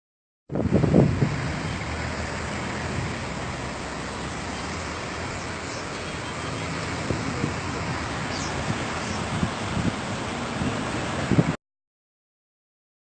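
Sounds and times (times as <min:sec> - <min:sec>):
river floodwater rushing: 0:00.7 - 0:11.6.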